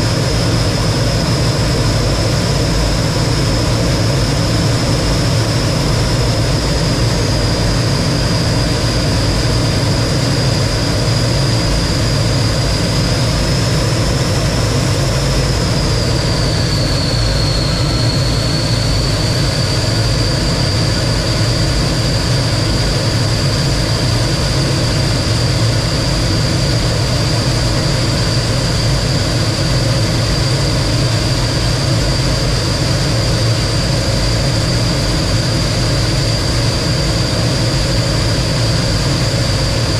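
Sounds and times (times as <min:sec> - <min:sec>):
jet engine running: 0:00.0 - 0:39.9.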